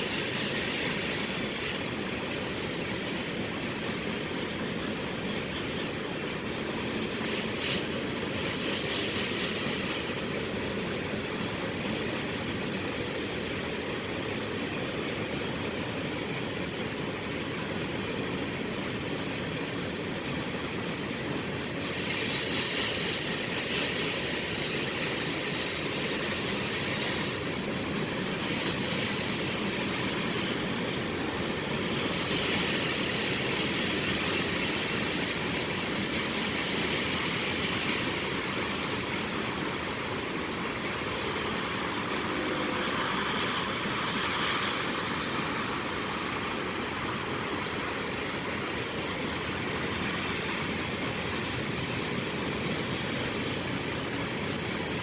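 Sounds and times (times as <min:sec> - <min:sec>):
train wheels rolling on track: 0:00.0 - 0:55.0.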